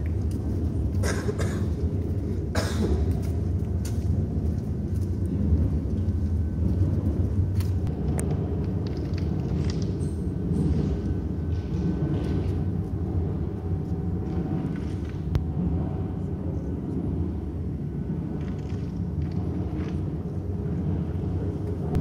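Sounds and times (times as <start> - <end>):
train rumbling through tunnel: 0.0 - 22.0.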